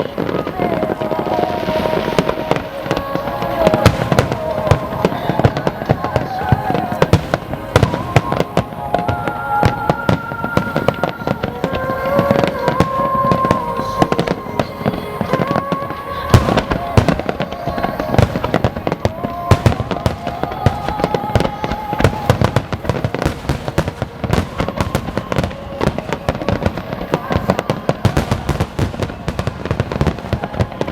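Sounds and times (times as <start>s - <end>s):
fireworks bursting and crackling: 0.0s - 30.9s
music over loudspeakers: 0.0s - 30.9s.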